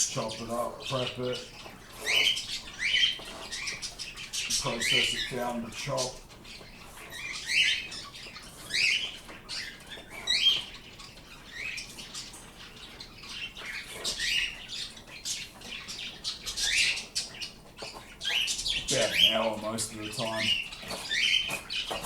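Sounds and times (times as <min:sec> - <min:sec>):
pet birds chirping: 0:00.0 - 0:22.0.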